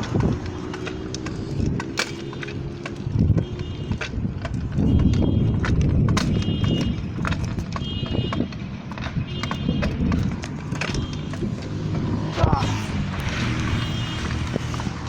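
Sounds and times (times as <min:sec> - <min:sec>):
bike rattling over rough ground: 0:00.0 - 0:15.0
wind on microphone: 0:00.0 - 0:15.0.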